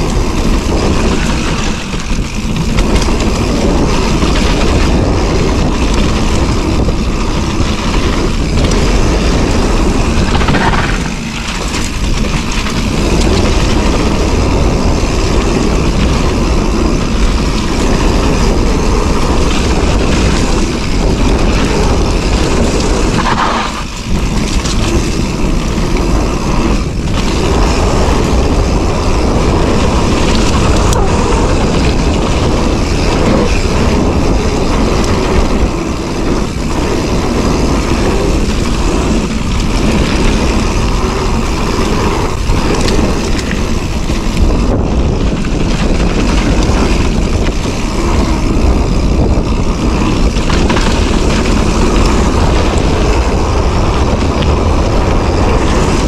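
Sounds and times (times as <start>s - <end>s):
bike tyres rolling on dirt: 0.0s - 56.0s
wind on microphone: 0.0s - 56.0s.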